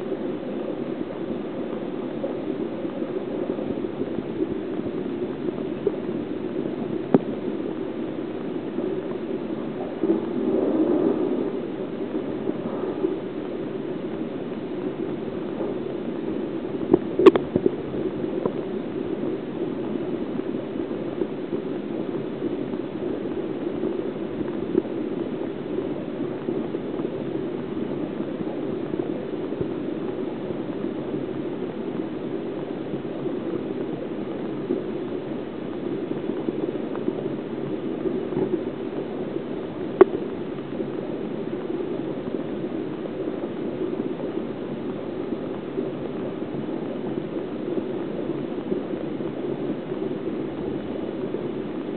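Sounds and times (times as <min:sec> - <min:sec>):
water bubbling and gurgling: 0:00.0 - 0:51.9.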